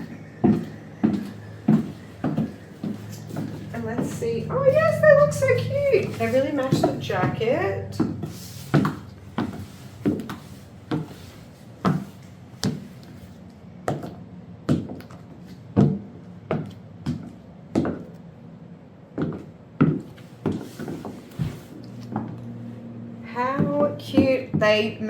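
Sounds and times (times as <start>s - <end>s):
high heel footsteps on hard floor: 0.0s - 18.2s, 19.1s - 22.4s, 23.3s - 25.0s.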